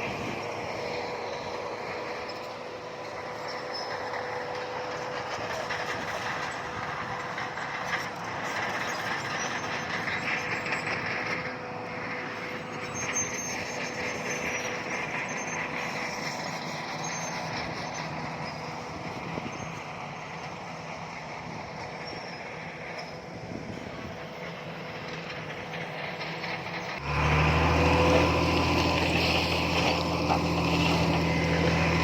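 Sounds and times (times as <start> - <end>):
heavy earthmoving machinery running: 0.0 - 32.0.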